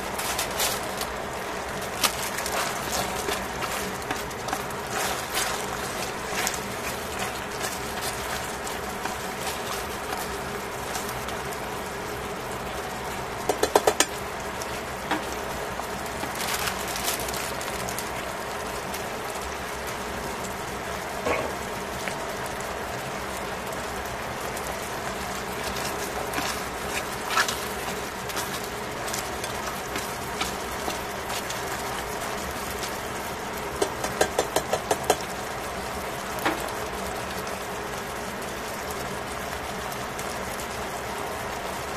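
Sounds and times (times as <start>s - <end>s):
food bubbling in a pot: 0.0s - 41.9s.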